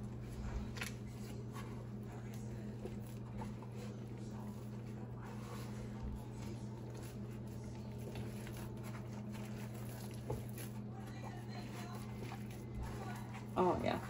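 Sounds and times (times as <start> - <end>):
hands patting dough: 0.0 - 14.0
steady low hum: 0.0 - 14.0.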